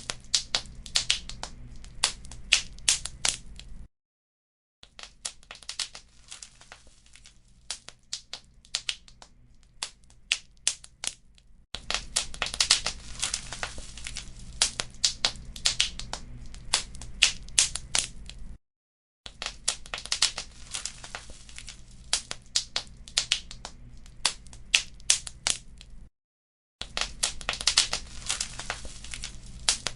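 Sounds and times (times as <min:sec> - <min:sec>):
wood fire crackling: 0:00.0 - 0:03.9, 0:05.0 - 0:18.6, 0:19.4 - 0:26.1, 0:26.8 - 0:29.9.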